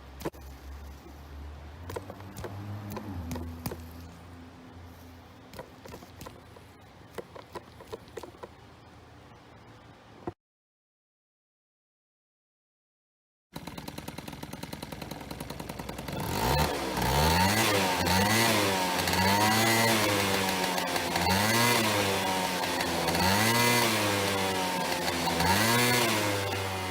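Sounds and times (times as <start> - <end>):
scooter engine idling and revving: 0.0 - 8.5, 13.6 - 26.9.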